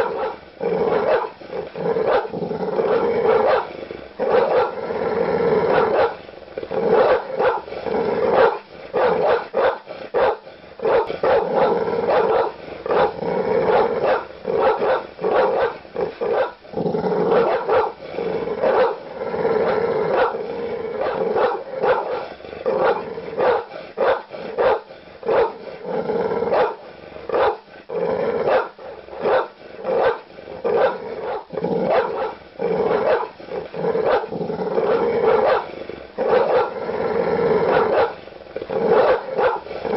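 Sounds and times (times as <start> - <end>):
large dog barking: 0.0 - 4.9, 5.6 - 16.6, 17.2 - 25.7, 26.4 - 27.7, 28.3 - 36.8, 37.6 - 39.9
dog growling: 0.0 - 39.9.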